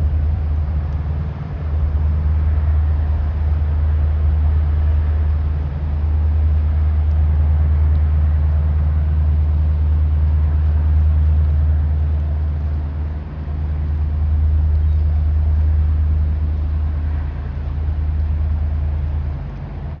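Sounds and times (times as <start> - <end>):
deep diesel engine drone: 0.0 - 20.0.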